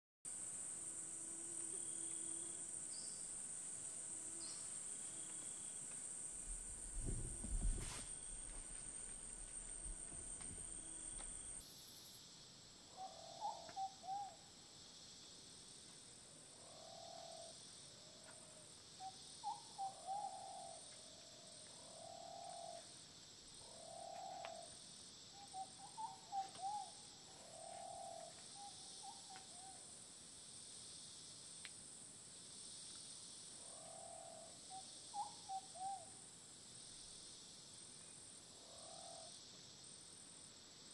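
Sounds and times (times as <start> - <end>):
pulsing insect hiss: 0.3 - 18.2, 18.8 - 40.9
insect chirr: 0.3 - 40.9.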